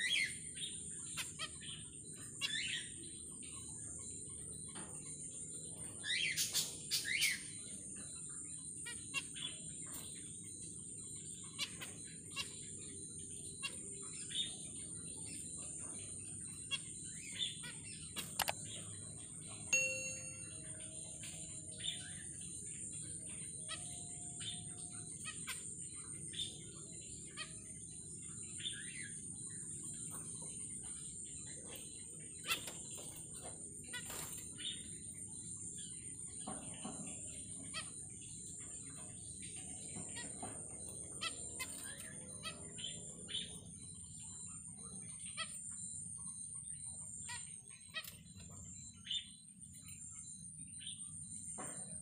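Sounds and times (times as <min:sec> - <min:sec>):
finches chirping: 0:00.0 - 0:52.0
low background hum: 0:00.0 - 0:52.0.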